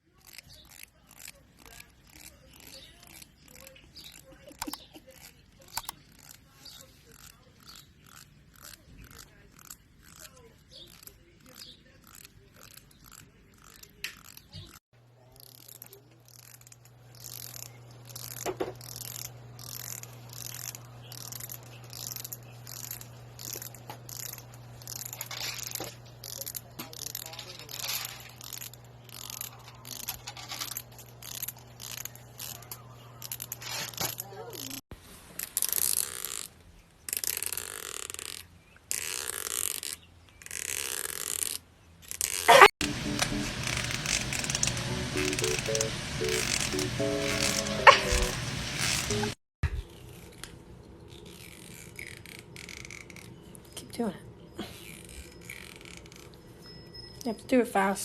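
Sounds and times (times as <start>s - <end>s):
fingernail scraping comb teeth: 0.0s - 34.8s, 35.4s - 56.5s.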